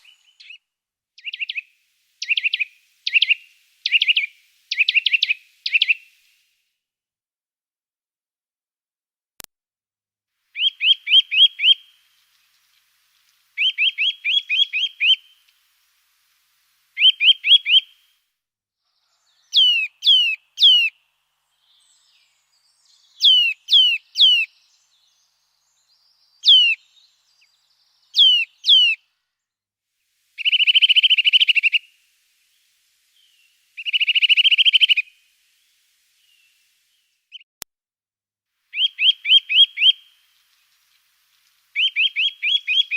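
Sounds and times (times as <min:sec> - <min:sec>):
songbird singing: 0:00.0 - 0:06.4, 0:10.5 - 0:18.2, 0:18.9 - 0:29.5, 0:30.2 - 0:37.5, 0:38.7 - 0:42.9.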